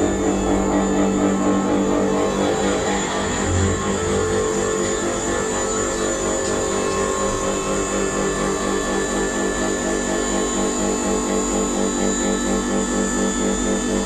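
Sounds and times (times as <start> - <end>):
hydraulic pump motor running: 0.0 - 11.3.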